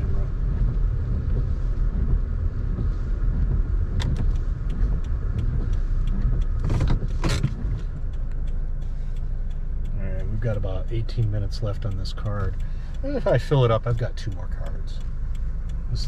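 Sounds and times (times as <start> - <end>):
car engine and road rumble: 0.0 - 16.0
quick regular ticks: 0.3 - 16.0.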